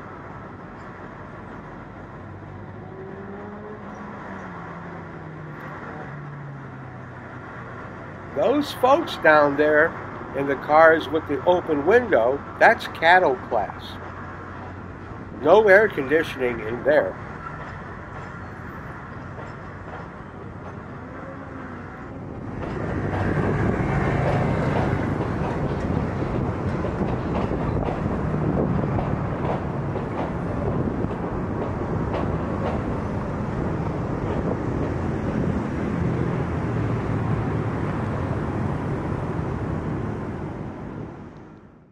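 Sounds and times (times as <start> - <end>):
train wheels rumbling on track: 0.0 - 41.6.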